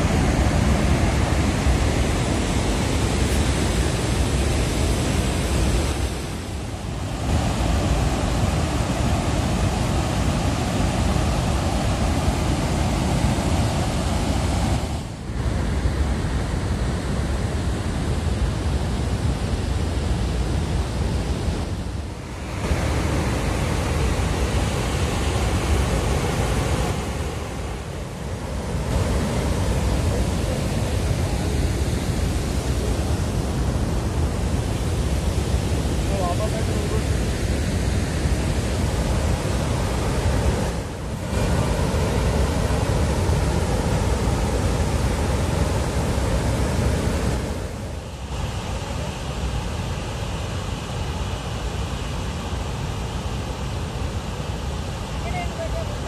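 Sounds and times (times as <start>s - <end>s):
floodwater rushing through dam gates: 0.0s - 56.0s.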